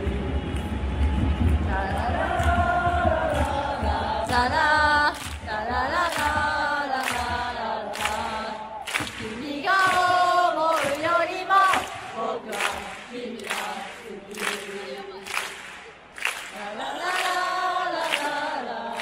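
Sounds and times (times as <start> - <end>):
football crowd chanting: 0.0 - 19.0.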